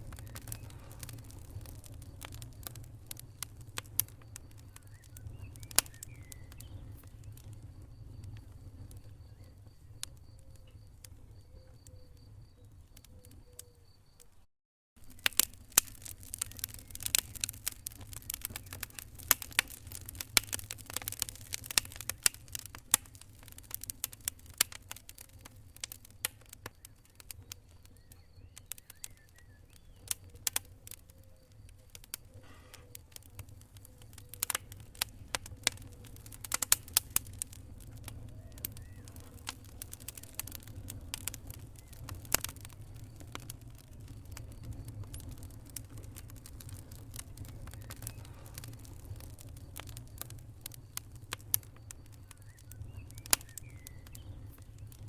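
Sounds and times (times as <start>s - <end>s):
wood fire crackling: 0.0s - 14.4s, 15.0s - 55.0s.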